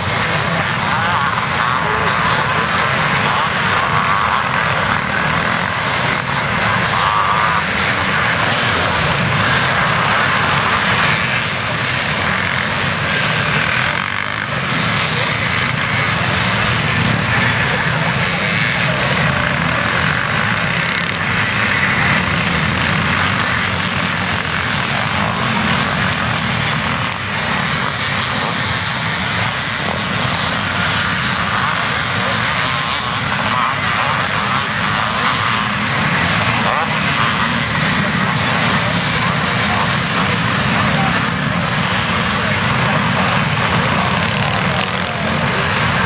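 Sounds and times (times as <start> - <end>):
motocross bikes racing: 0.0 - 46.0.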